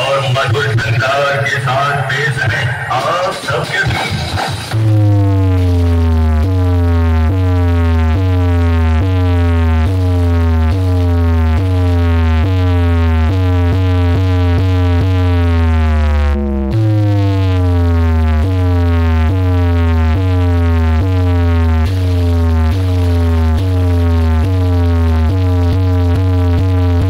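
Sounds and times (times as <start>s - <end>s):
heavy bass note: 0.0s - 27.0s.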